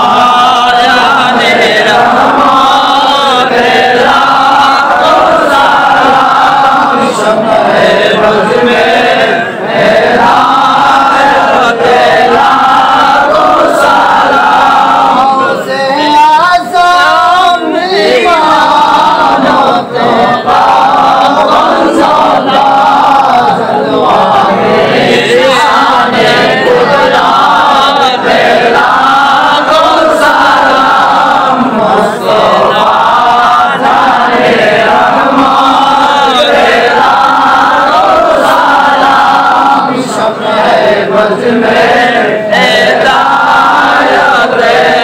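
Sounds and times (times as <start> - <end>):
men chanting together: 0.0 - 45.0.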